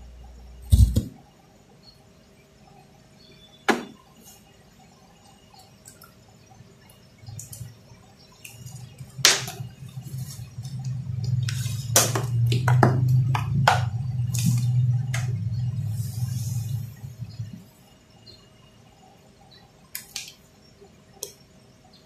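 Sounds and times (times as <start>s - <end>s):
low mains hum: 0.0s - 22.0s.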